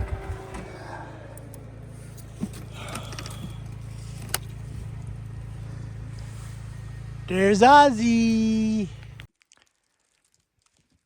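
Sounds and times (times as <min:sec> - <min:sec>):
engine idling: 0:00.0 - 0:09.3.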